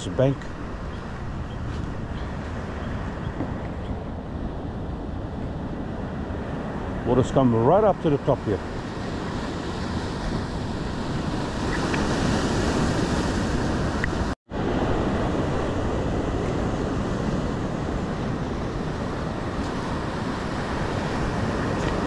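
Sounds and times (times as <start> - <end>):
wind on the microphone: 0.0 - 7.5, 8.6 - 22.0.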